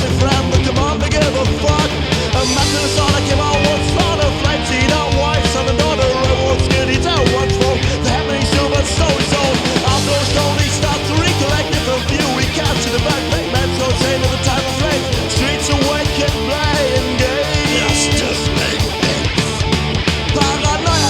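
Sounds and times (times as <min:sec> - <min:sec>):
punk rock song: 0:00.0 - 0:21.0.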